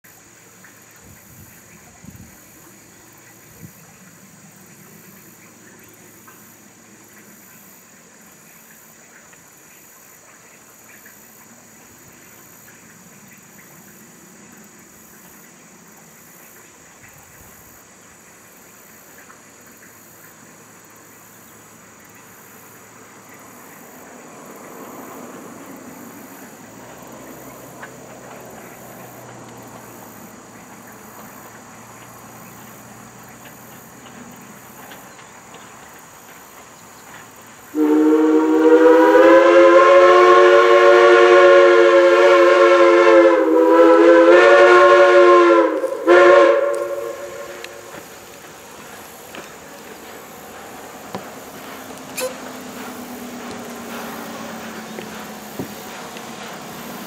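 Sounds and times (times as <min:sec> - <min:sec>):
steam locomotive running: 0:10.1 - 0:57.0.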